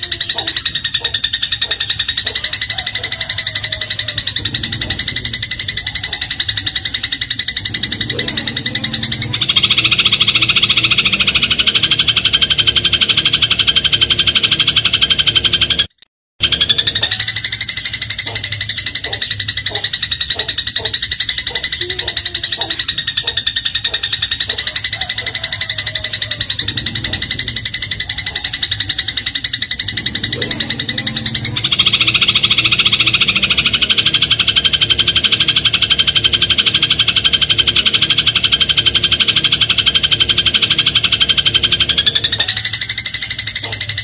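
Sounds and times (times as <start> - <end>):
sparrow rattling trill: 0.0 - 44.0.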